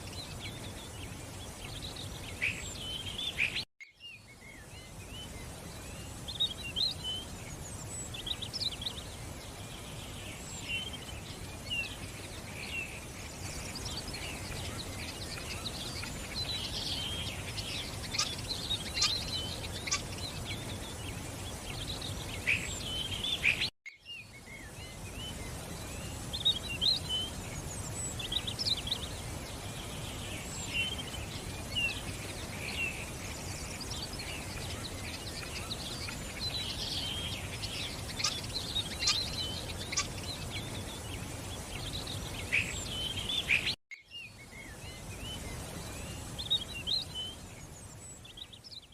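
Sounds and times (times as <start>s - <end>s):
birds chirping and twittering: 0.0s - 48.9s.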